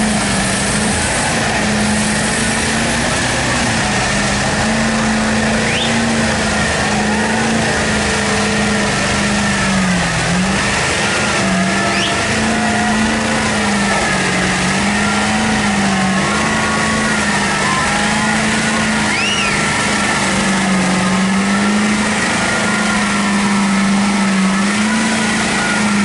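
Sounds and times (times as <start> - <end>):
dense wash of noise: 0.0 - 26.0
truck diesel engine running: 0.0 - 26.0.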